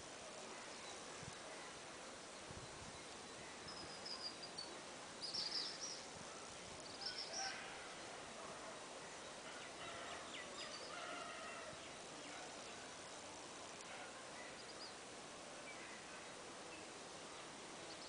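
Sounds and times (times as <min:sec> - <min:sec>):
faint outdoor noise: 0:00.0 - 0:18.0
birds chirping and trilling: 0:02.6 - 0:18.0.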